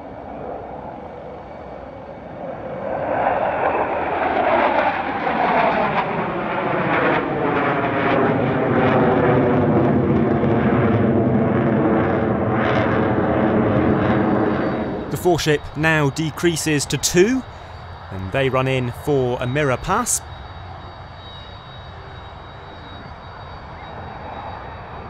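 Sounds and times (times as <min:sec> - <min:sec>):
fighter jets flying past: 0:00.0 - 0:25.0.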